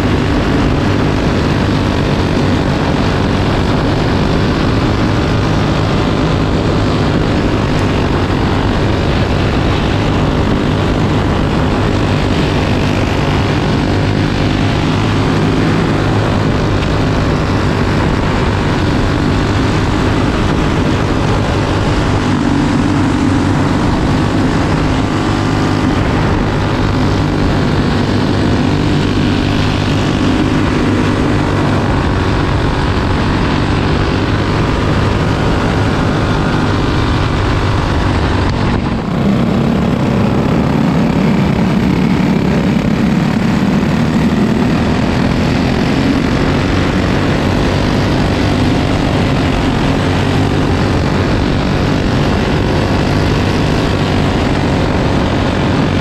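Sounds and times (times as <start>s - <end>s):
kart engine running hard: 0.0s - 56.0s
steady rush of noise: 0.0s - 56.0s.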